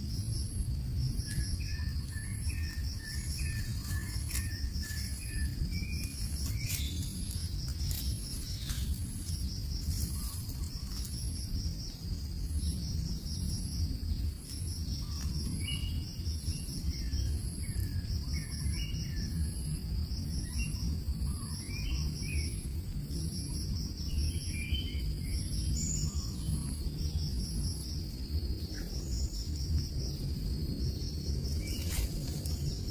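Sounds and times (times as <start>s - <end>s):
insects trilling: 0.0s - 32.9s
low rumble: 0.0s - 32.9s.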